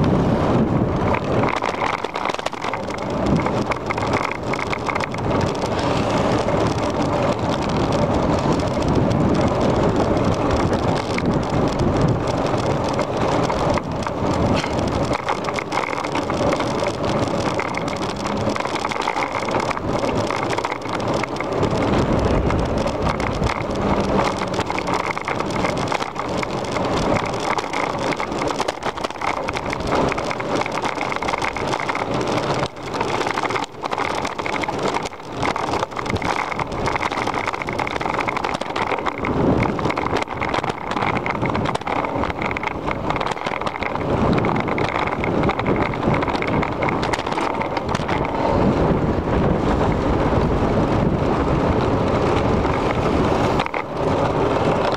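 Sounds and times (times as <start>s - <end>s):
bicycle tyres rumbling and rattling: 0.0s - 54.9s
wind over microphone: 0.0s - 54.9s.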